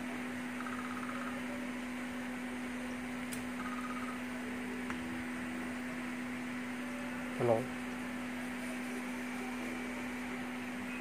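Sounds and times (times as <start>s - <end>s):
fan motor humming: 0.0s - 11.0s.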